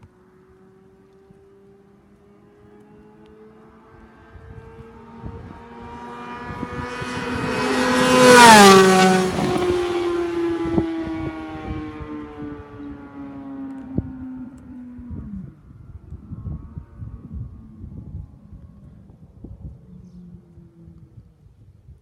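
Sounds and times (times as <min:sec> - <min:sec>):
motorcycle passing at high speed: 0:00.0 - 0:21.7.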